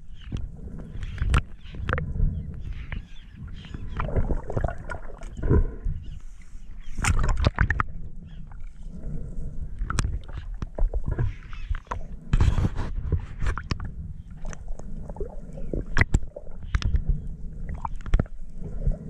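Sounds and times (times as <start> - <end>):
underwater water rumble: 0.0 - 19.0.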